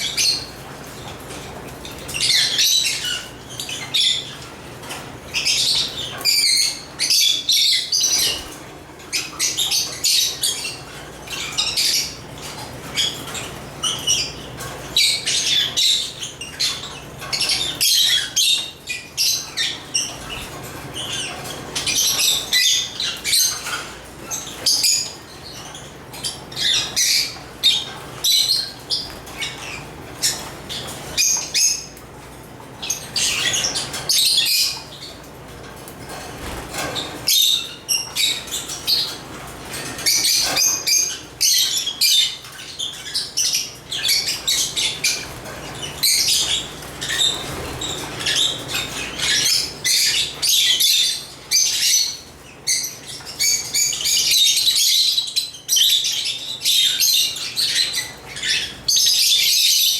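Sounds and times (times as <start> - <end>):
lovebirds chirping: 0.0 - 59.9.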